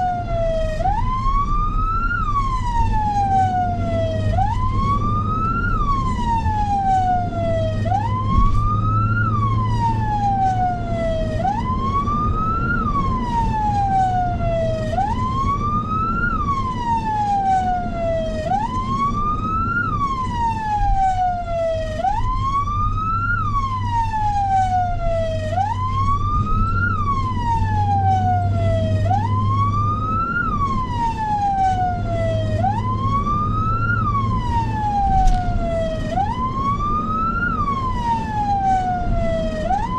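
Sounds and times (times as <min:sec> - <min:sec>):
emergency vehicle siren: 0:00.0 - 0:39.9.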